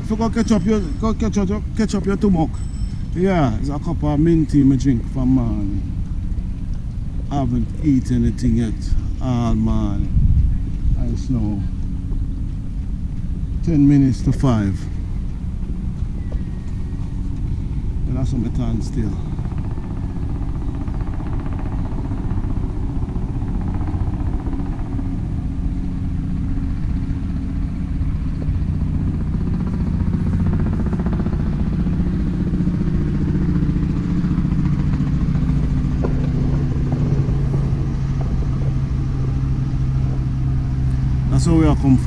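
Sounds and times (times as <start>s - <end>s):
motor engine running: 0.0s - 42.0s.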